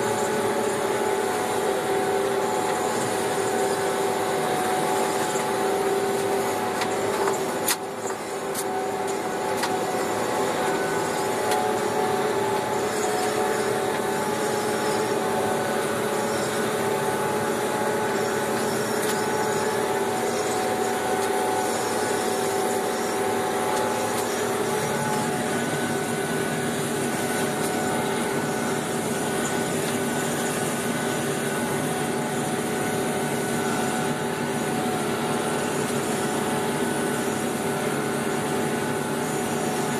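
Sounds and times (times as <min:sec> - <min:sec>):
tractor engine drone: 0:00.0 - 0:39.9.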